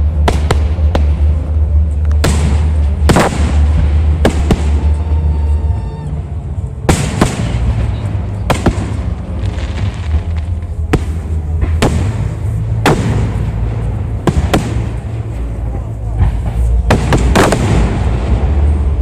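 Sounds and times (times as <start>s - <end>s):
steady low rumble: 0.0s - 19.0s
fireworks bangs: 2.2s - 5.4s, 6.8s - 19.0s.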